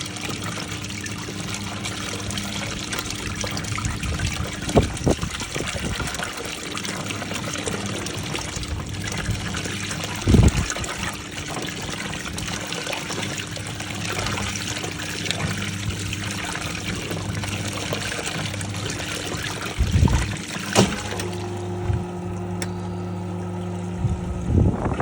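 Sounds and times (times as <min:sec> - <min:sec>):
washing machine hum: 0:00.0 - 0:25.0
water trickling in tub: 0:00.0 - 0:25.0.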